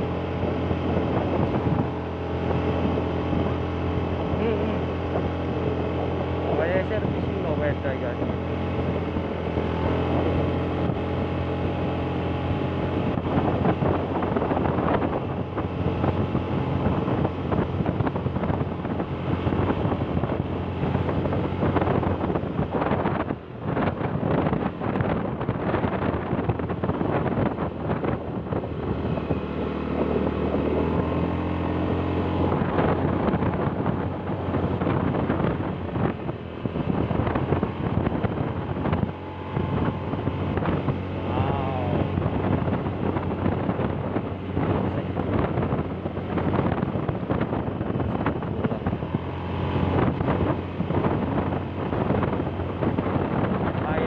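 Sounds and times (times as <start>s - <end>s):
vehicle engine running: 0.0s - 54.0s
wind buffeting microphone: 0.0s - 54.0s.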